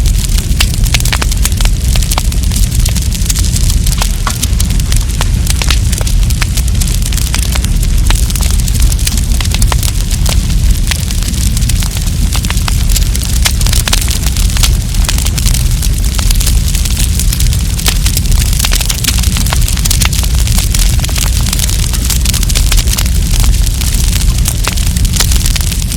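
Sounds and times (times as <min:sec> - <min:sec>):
campfire crackling and popping: 0:00.0 - 0:25.9
fire low rumble: 0:00.0 - 0:25.9.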